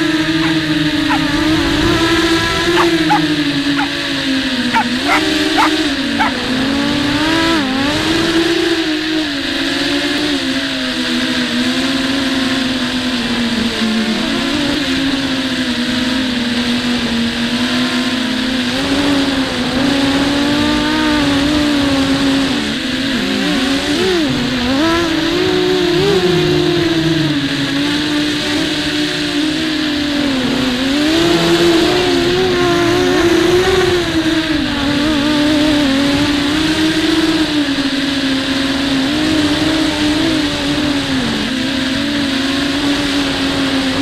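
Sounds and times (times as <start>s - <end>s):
quadcopter motors whining: 0.0s - 44.0s.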